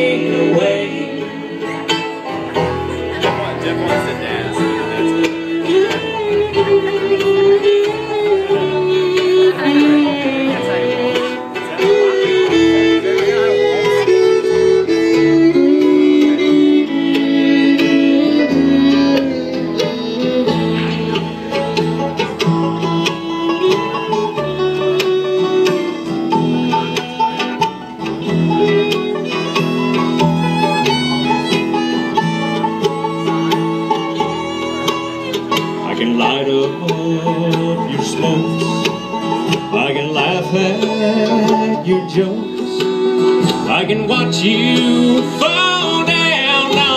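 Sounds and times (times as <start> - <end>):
bluegrass band playing: 0.0 - 46.9
fiddle melody: 0.0 - 46.9
mandolin: 0.0 - 46.9
picked banjo: 0.0 - 46.9
strummed acoustic guitar: 0.0 - 46.9
upright bass: 0.0 - 46.9.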